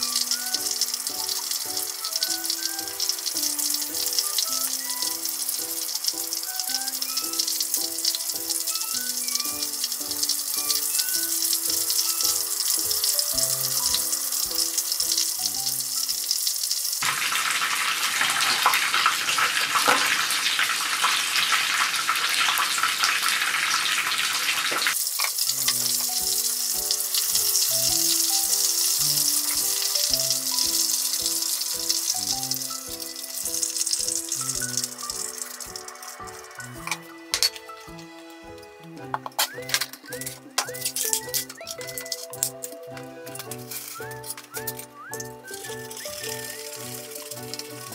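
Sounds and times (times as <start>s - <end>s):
background music: 0.0s - 16.5s, 24.6s - 47.9s
food deep-frying in oil: 0.0s - 47.9s.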